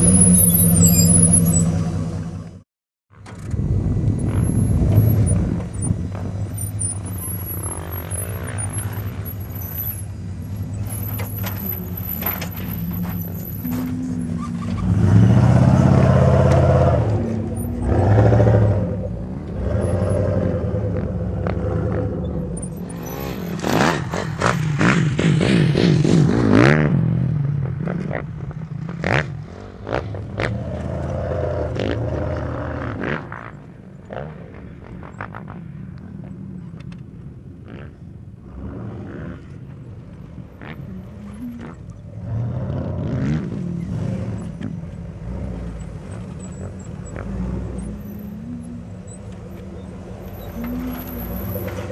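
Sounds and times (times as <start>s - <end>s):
truck engine labouring and revving: 0.0s - 51.9s.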